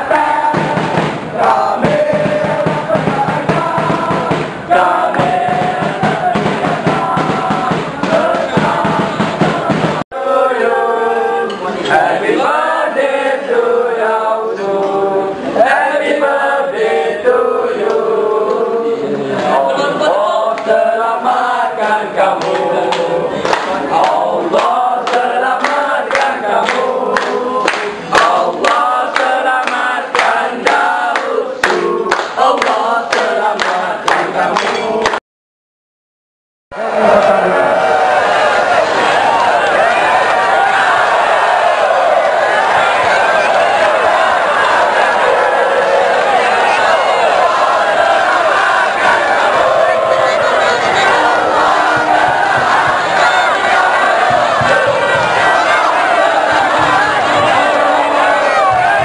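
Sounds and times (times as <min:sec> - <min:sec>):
group singing: 0:00.0 - 0:35.2, 0:36.8 - 0:59.0
sharp rhythmic beats: 0:00.0 - 0:35.2, 0:36.9 - 0:59.0.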